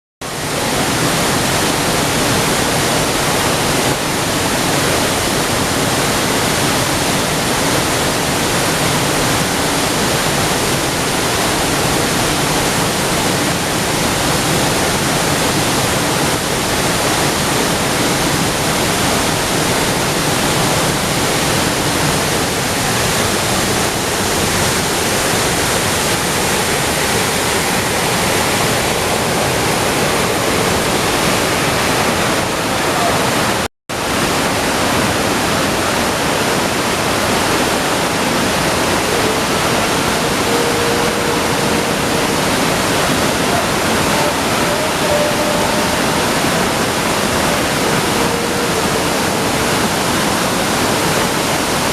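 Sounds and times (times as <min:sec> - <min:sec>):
waterfall rushing: 0:00.2 - 0:51.9.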